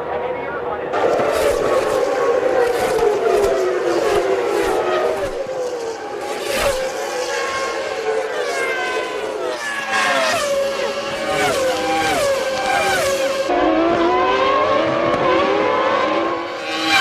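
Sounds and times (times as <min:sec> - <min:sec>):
racing car engines at high revs: 0:00.8 - 0:17.0.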